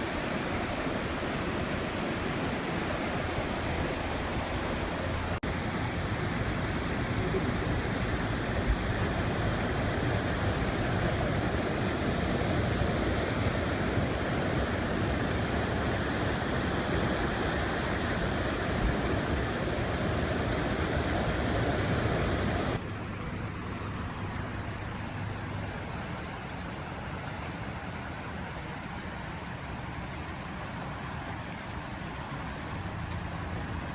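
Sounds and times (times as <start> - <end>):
flooding river rushing: 0.0 - 33.9.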